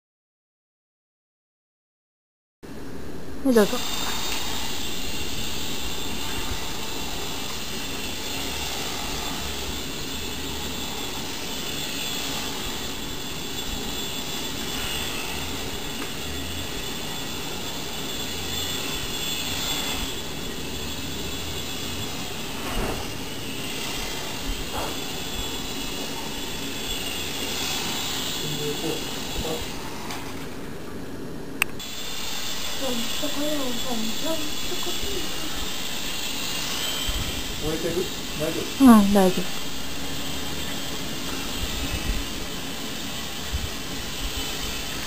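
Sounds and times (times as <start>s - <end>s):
tiny propeller motor whining: 3.5s - 30.9s, 31.6s - 45.0s.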